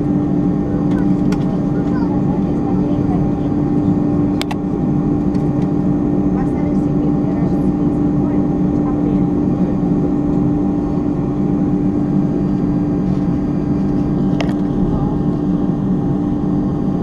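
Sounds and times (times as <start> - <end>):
aircraft cabin rumble: 0.0 - 17.0
constant hum: 0.0 - 17.0.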